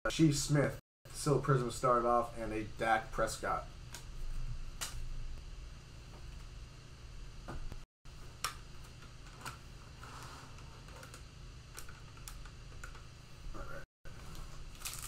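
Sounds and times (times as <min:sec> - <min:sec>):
low steady hum: 0:00.1 - 0:15.0.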